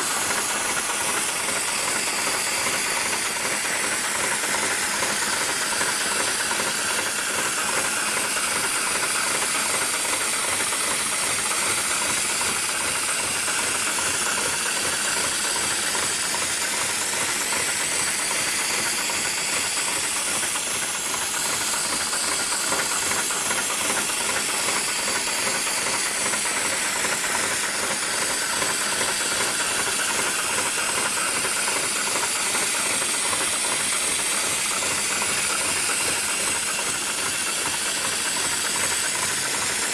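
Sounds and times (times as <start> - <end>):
industrial sewing machine stitching: 0.0 - 39.9.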